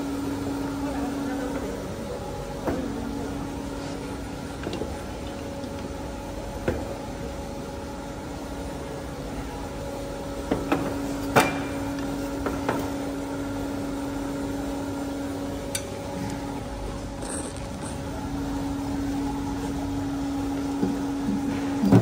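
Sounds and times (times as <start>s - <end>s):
furnace electrical hum: 0.0s - 22.0s.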